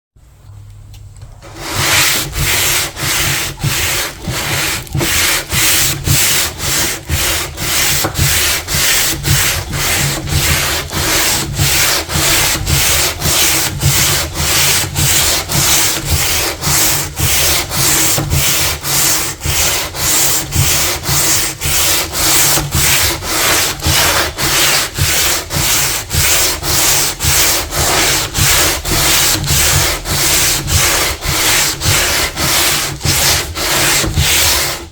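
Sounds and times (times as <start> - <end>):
sandpaper rubbing by hand: 1.4 - 34.9.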